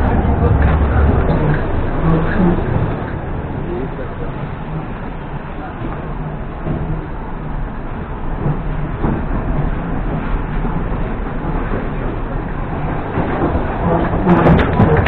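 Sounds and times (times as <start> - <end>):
low hum: 0.0 - 15.0
train wheels rumbling: 0.0 - 15.0.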